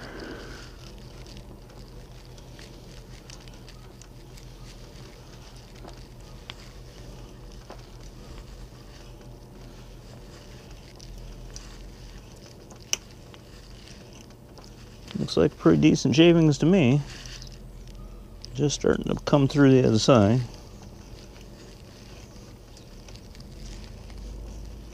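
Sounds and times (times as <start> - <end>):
small ticks: 0.0 - 24.9.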